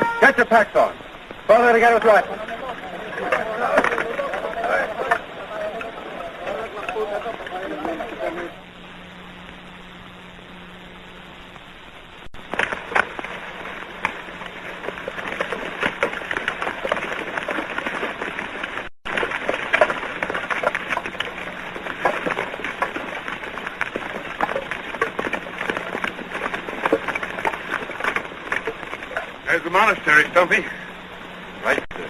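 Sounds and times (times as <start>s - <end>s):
film soundtrack hiss: 0.0s - 32.0s
low hum: 0.0s - 32.0s.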